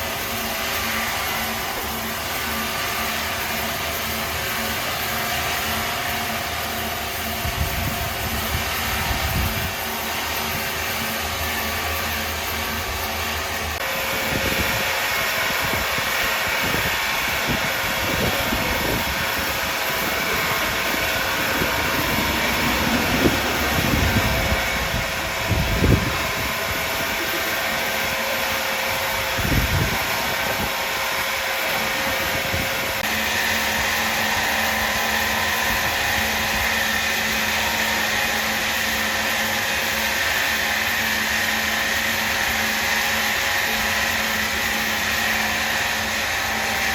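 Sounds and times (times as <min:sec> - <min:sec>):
sawmill machinery running: 0:00.0 - 0:46.9.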